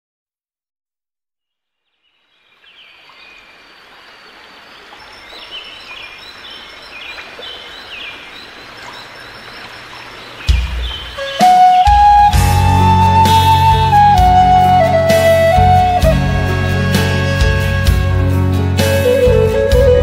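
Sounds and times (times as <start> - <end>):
birds chirping: 1.8 - 18.3.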